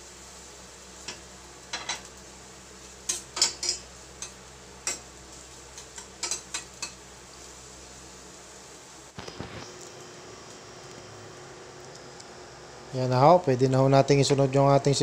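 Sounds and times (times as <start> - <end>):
garlic sizzling in hot oil: 0.0 - 12.9.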